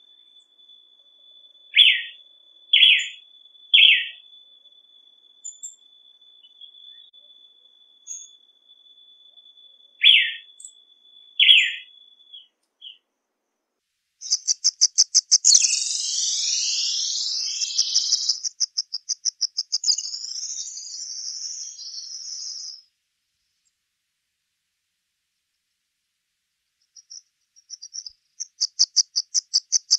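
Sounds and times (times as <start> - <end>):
bird singing high song: 0.0 - 13.1, 14.2 - 22.9, 26.8 - 29.9
faint steady high whine: 0.0 - 28.7.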